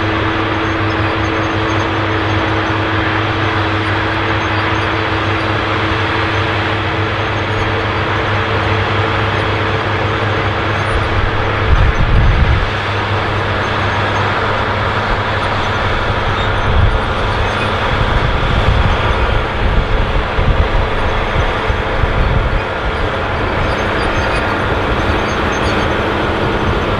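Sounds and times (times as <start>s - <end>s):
low rumbling surges: 0.0s - 26.9s
tractor diesel engine under load: 0.0s - 26.9s.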